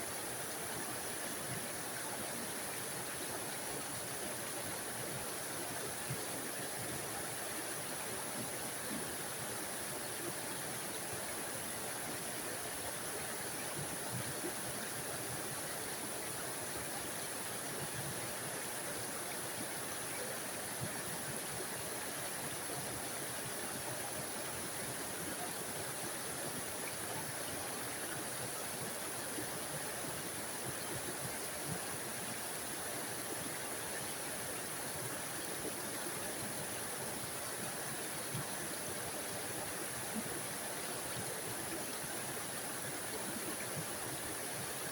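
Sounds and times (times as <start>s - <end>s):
small waterfall rushing: 0.0s - 44.9s.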